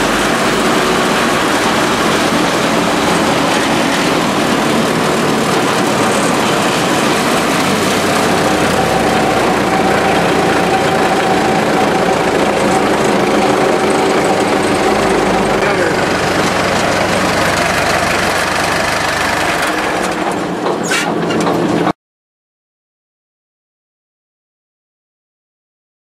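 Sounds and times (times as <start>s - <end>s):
steady whine: 0.0s - 21.9s
wood chipper running: 0.0s - 21.9s.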